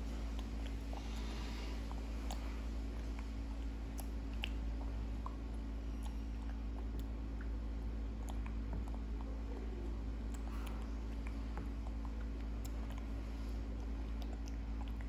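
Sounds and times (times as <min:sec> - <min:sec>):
steady low hum: 0:00.0 - 0:15.0
wet eating smacks and clicks: 0:00.0 - 0:15.0.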